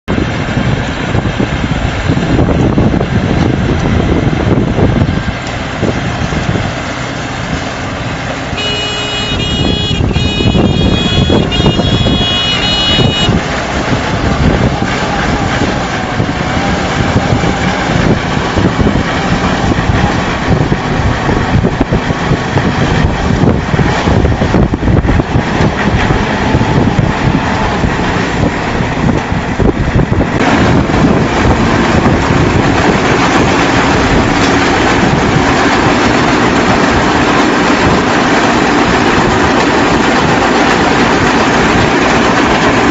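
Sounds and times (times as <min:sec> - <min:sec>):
baler and tractor running: 0:00.1 - 0:42.9.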